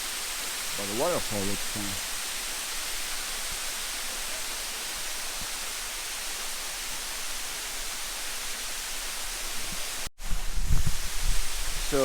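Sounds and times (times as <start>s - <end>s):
waterfall rushing water: 0.0s - 10.1s.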